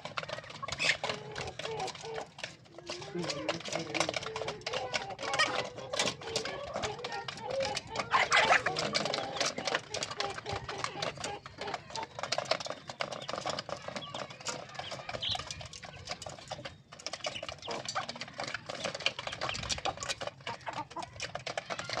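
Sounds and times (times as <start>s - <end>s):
chicken calls: 0.0s - 22.0s
chickens pecking feed: 0.0s - 22.0s.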